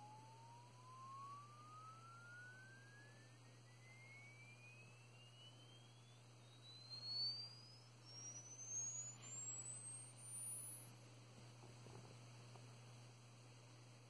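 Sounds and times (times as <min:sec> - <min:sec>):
sine tone sweeping upward: 0:00.0 - 0:12.6
low steady hum: 0:00.0 - 0:14.0.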